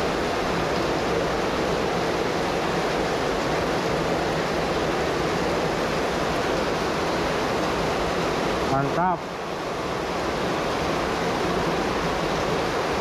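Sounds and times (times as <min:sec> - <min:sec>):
falling rain: 0:00.0 - 0:13.0.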